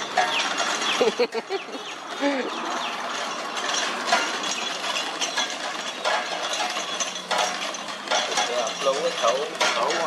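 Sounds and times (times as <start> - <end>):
gears whirring and rattling: 0.0 - 10.0.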